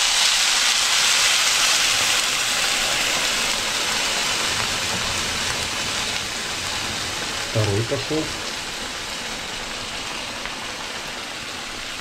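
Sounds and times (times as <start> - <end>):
water sizzling in hot frying pan: 0.0 - 12.0.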